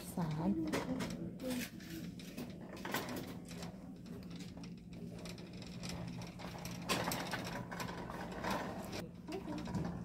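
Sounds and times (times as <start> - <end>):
shopping cart rattling: 0.0 - 10.0.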